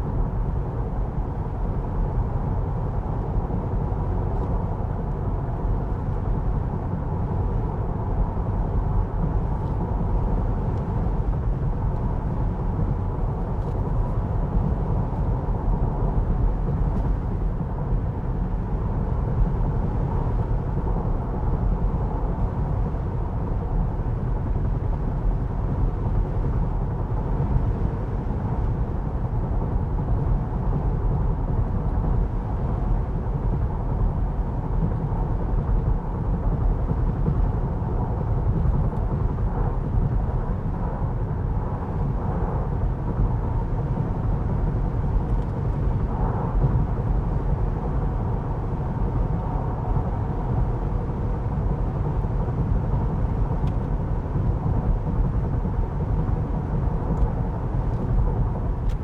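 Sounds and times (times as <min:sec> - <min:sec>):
road and tyre noise in car: 0:00.0 - 0:59.0.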